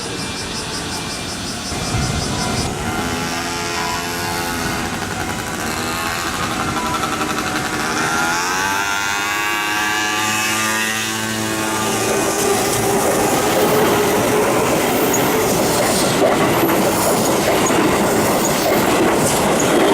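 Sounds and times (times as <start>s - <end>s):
electric train motors whining: 0.0s - 19.9s
train running gear rumble: 0.0s - 19.9s.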